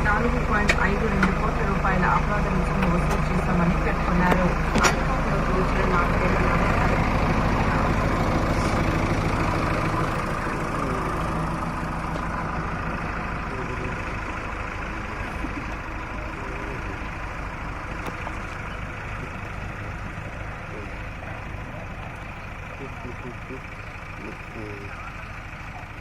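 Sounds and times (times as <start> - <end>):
heavy engine idling: 0.0 - 26.0.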